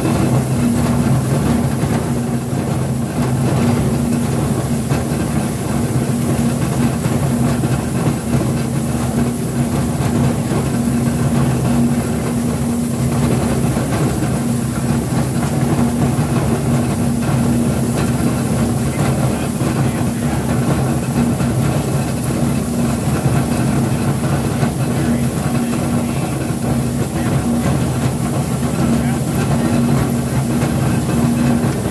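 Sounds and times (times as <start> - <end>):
scrap chopper humming: 0.0 - 31.9.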